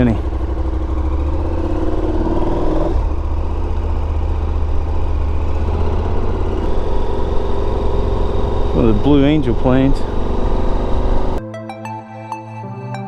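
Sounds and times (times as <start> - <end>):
motorcycle engine accelerating: 0.0 - 11.4.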